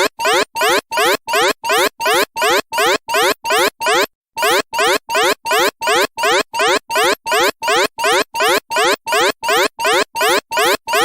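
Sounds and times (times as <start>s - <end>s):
electronic alarm buzzer pulses: 0.0s - 11.0s.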